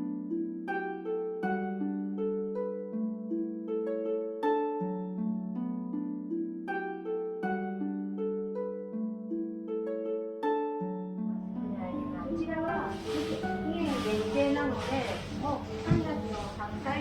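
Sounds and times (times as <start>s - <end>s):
gentle plucked melody: 0.0s - 17.0s.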